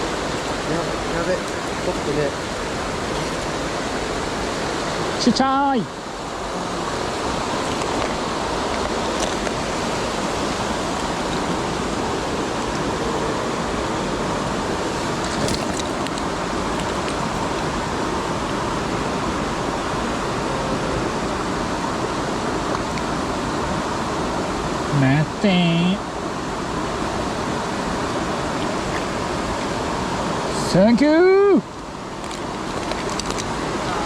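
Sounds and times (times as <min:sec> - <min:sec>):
stream water rushing: 0:00.0 - 0:34.0.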